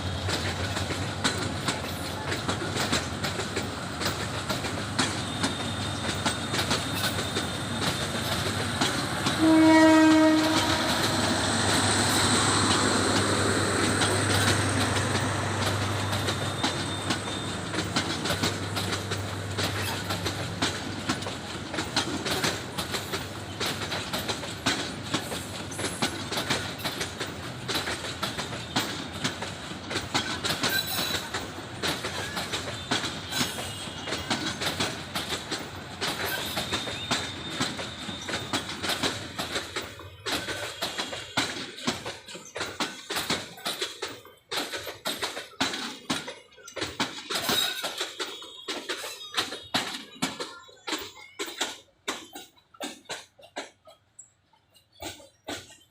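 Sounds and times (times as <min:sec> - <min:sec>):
train wheels clicking over rail joints: 0:00.0 - 0:55.9.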